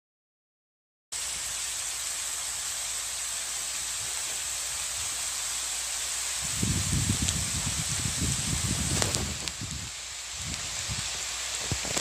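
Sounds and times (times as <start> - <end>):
steady rain falling: 1.1 - 12.0.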